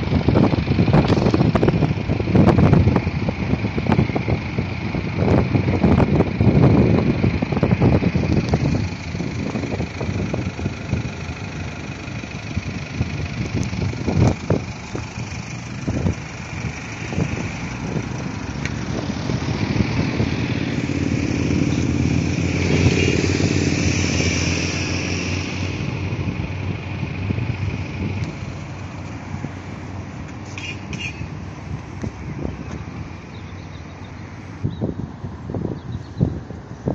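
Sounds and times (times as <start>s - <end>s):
diesel engine idling: 0.0s - 36.9s.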